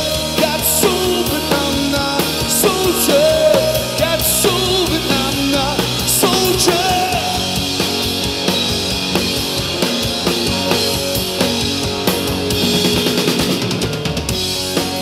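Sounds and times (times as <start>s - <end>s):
bass guitar: 0.0s - 15.0s
bending held melody line: 0.0s - 15.0s
drum kit: 0.0s - 15.0s
electric guitar: 0.0s - 15.0s.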